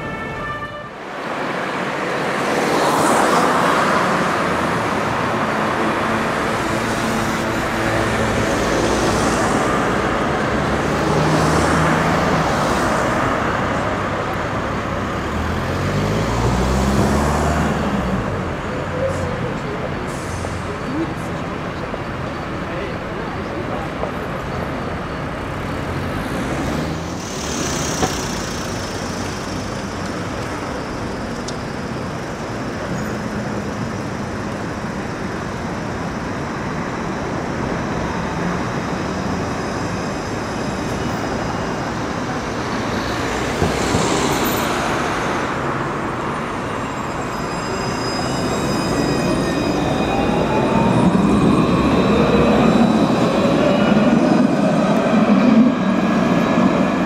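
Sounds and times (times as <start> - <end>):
street traffic noise: 0.0 - 57.0
tram drive whine: 0.0 - 57.0
vehicles passing: 0.0 - 57.0
tram wheels rumbling on rails: 1.1 - 57.0.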